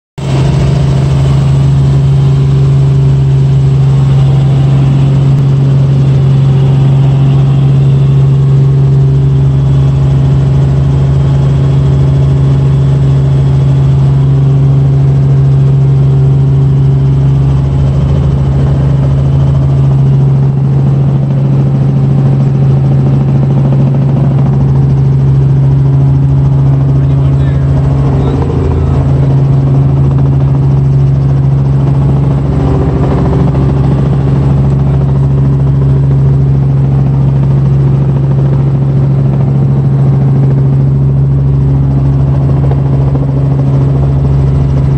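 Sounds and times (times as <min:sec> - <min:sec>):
helicopter engine and rotors drone: 0:00.2 - 0:44.9.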